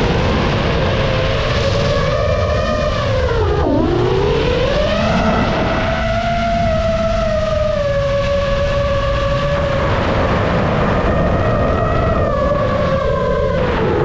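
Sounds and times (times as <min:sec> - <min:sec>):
heavy low rumble: 0:00.0 - 0:14.0.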